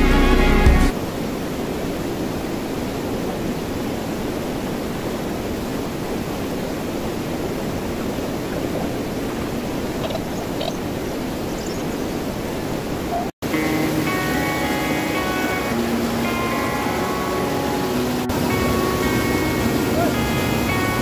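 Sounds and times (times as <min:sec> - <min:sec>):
water rushing over rocks: 0:00.1 - 0:21.0.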